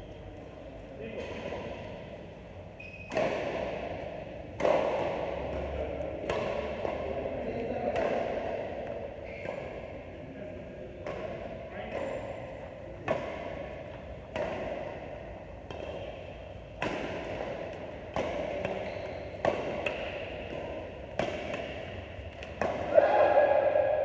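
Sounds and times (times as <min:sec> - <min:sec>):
rackets hitting shuttlecock: 0:01.1 - 0:10.2, 0:10.9 - 0:24.0.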